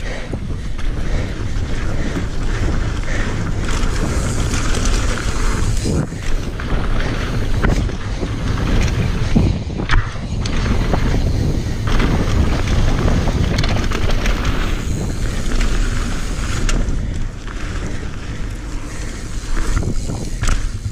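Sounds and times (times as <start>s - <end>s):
bike knocks and rattles: 0.0s - 20.9s
tyres rolling over dirt: 0.0s - 20.9s
wind buffeting microphone: 0.0s - 20.9s.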